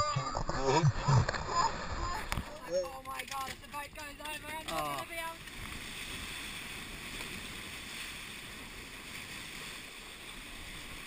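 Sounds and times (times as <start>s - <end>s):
water rushing along hull: 0.0s - 11.0s.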